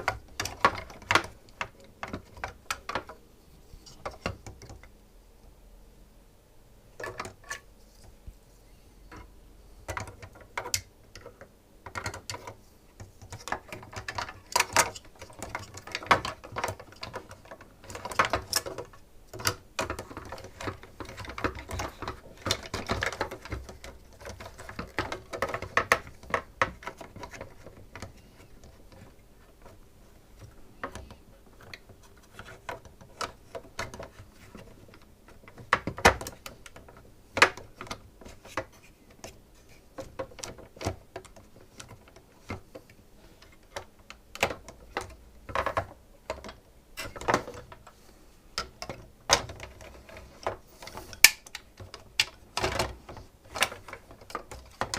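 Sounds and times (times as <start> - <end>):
plastic parts clicking and rattling: 0.0 - 3.2, 3.8 - 5.0, 7.0 - 8.2, 9.1 - 54.9.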